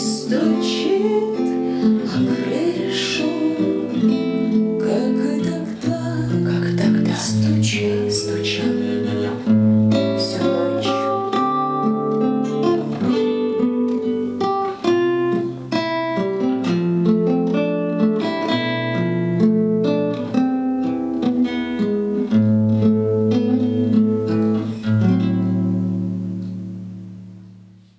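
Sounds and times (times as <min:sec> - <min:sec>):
acoustic guitar playing: 0:00.0 - 0:27.9.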